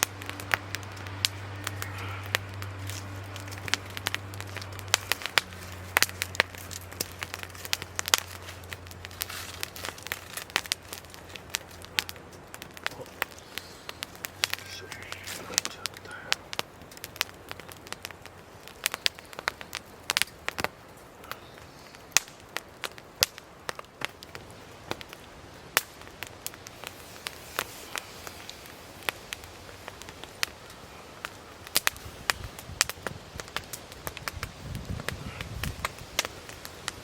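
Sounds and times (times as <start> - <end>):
firewood crackling and popping: 0.0 - 37.0.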